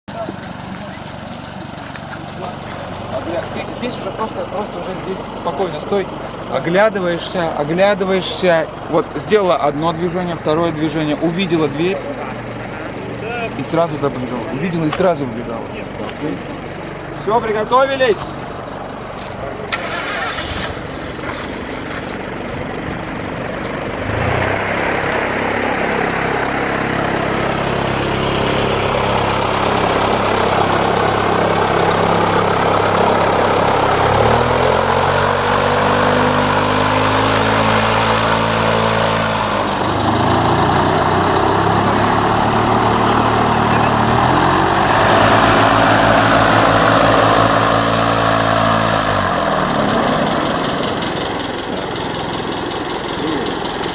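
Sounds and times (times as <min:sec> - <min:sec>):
paramotor engine revving: 0:00.1 - 0:53.9.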